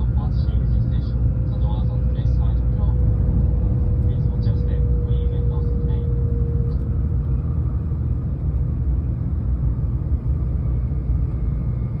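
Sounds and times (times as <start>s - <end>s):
train rumbling inside passenger car: 0.0s - 12.0s.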